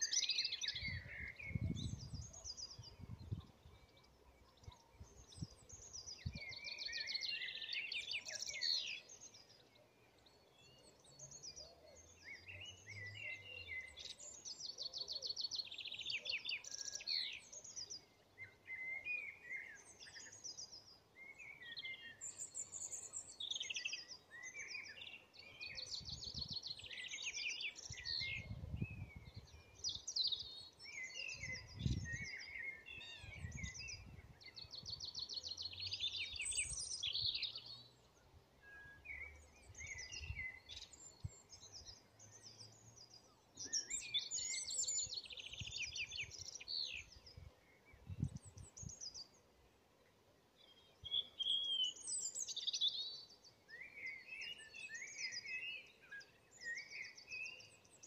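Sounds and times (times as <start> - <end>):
songbirds trilling and warbling: 0.0 - 58.0.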